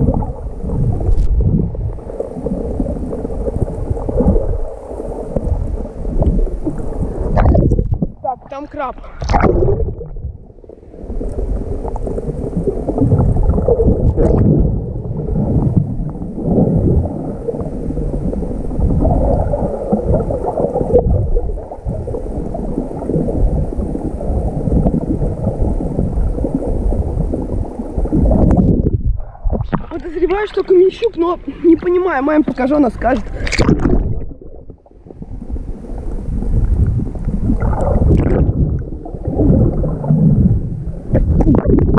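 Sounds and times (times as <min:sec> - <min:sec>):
muffled underwater gurgling: 0:00.0 - 0:41.9.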